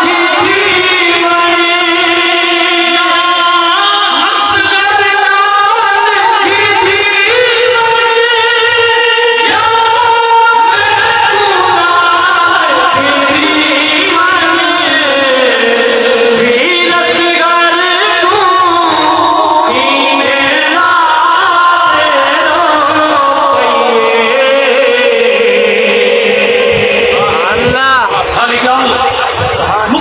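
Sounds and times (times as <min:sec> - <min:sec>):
man singing devotional lament: 0:00.0 - 0:30.0.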